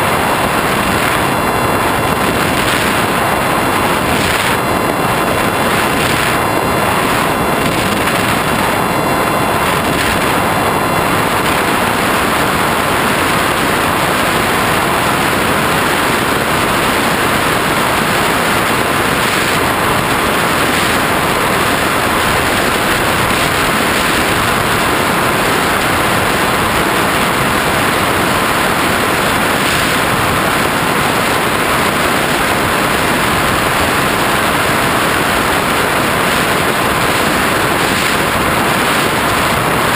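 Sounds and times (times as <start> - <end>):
faint motor and propeller whine: 0.0 - 39.9
loud rush of airflow: 0.0 - 39.9.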